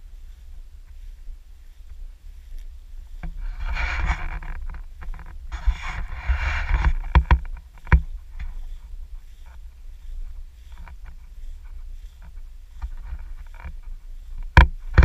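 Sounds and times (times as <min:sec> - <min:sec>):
constant low rumble: 0:00.0 - 0:15.0
rushes of air noise: 0:00.0 - 0:15.0.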